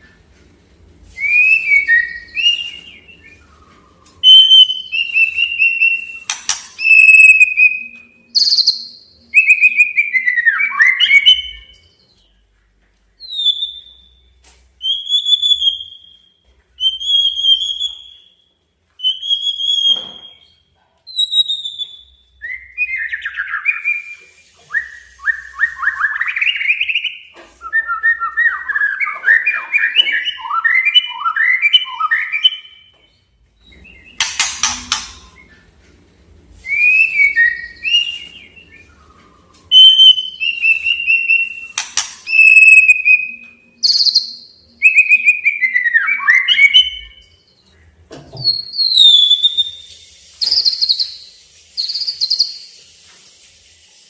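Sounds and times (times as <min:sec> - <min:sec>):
bird singing whistled phrases: 0:01.2 - 0:12.2, 0:14.8 - 0:32.9, 0:36.6 - 0:47.5, 0:48.5 - 0:52.8.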